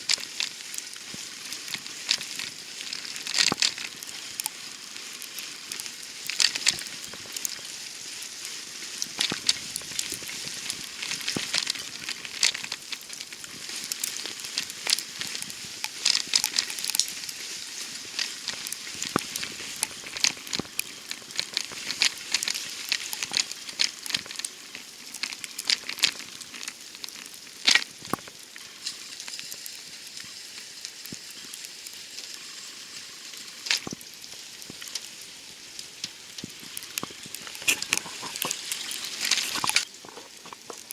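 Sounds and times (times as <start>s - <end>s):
wet snow crackling and ticking: 0.0s - 40.9s.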